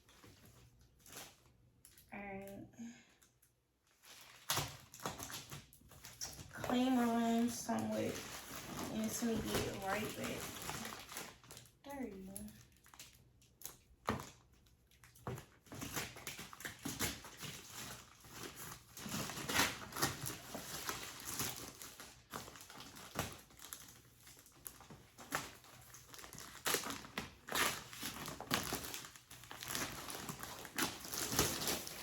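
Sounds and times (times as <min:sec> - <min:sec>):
plastic packaging crinkling: 0:03.9 - 0:32.0.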